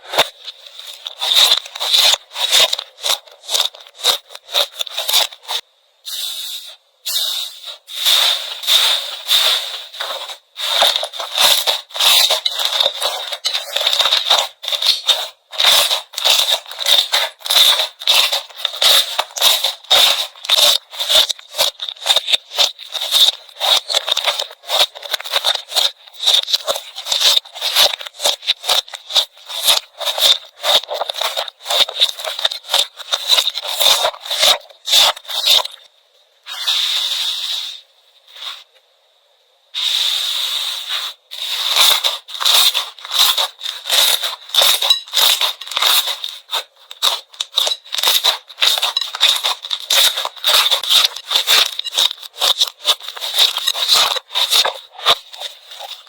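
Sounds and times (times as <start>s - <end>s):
slime crackling and popping: 0.0s - 5.6s, 7.1s - 35.9s, 41.0s - 56.0s.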